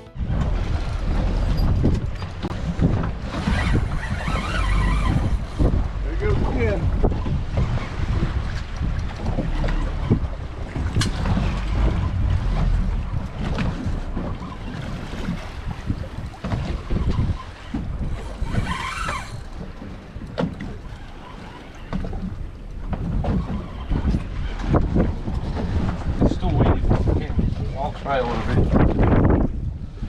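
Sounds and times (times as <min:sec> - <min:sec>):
water splash: 0:00.0 - 0:25.8
wind buffeting microphone: 0:00.0 - 0:30.0
knocks on boat: 0:00.2 - 0:05.9, 0:06.5 - 0:20.8, 0:21.9 - 0:27.2.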